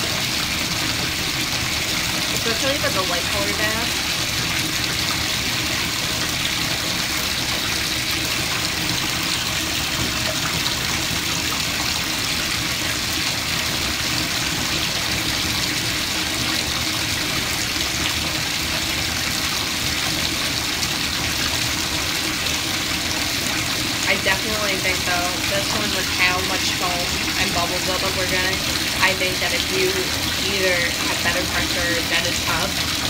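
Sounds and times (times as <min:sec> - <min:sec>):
tap water pouring into bath: 0:00.0 - 0:33.0.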